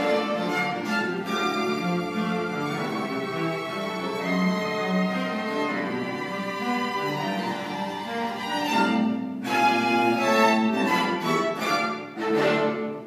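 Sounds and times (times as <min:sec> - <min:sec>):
string quartet playing tango: 0:00.0 - 0:13.0.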